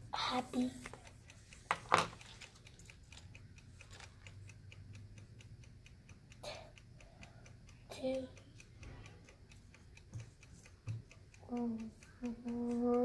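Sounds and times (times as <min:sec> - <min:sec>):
clock ticking: 0:00.0 - 0:13.0.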